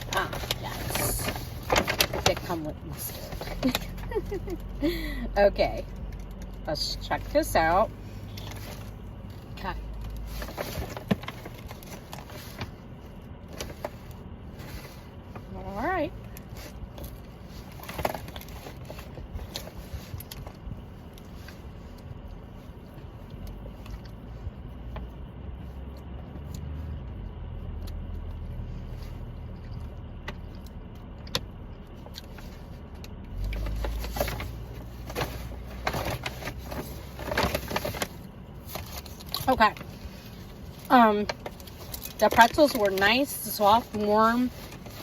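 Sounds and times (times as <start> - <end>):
low rumble: 0.0 - 45.0.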